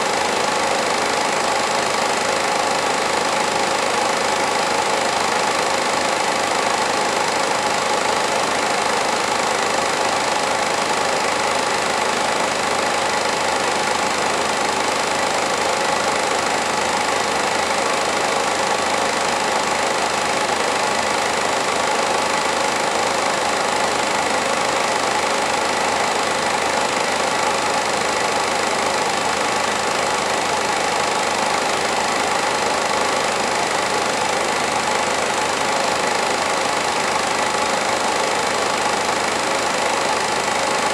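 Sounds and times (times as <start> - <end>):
film projector running: 0.0 - 40.9.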